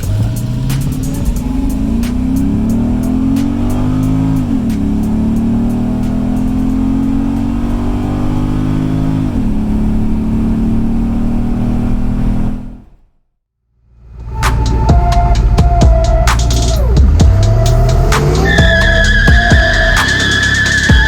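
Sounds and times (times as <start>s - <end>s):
engine accelerating hard: 0.0s - 13.1s, 13.9s - 21.0s.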